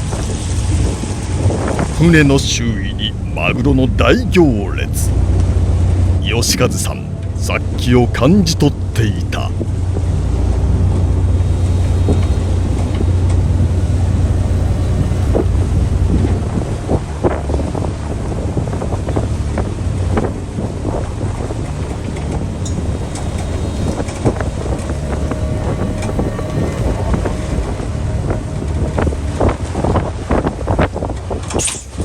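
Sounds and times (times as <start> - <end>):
boat engine rumbling: 0.0 - 32.0
wind buffeting microphone: 0.0 - 32.0.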